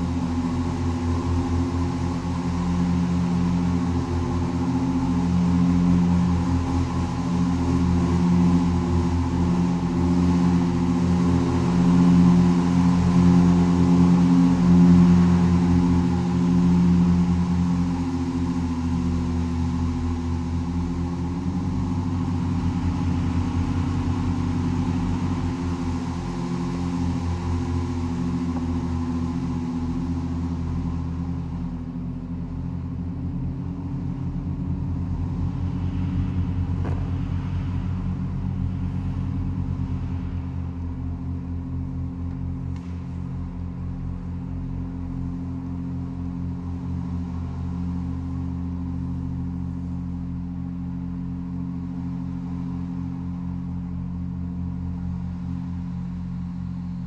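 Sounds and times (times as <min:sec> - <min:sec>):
pipe organ drone: 0:00.0 - 0:57.0.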